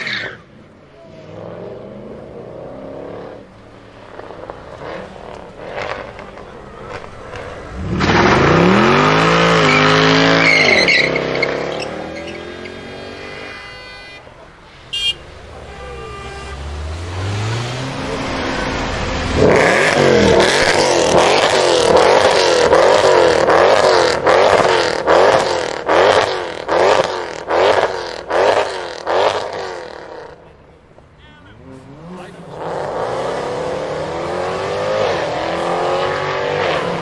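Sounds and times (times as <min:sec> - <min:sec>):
car engine revving hard: 0:01.3 - 0:13.5, 0:15.9 - 0:30.4, 0:31.6 - 0:37.0.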